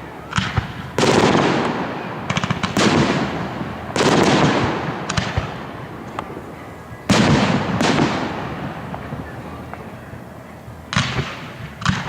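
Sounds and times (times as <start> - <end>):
fireworks booms with echoing rumble: 0.0 - 10.2, 10.8 - 12.0
fireworks crackling: 0.0 - 12.0
sharp fireworks cracks: 0.0 - 12.0.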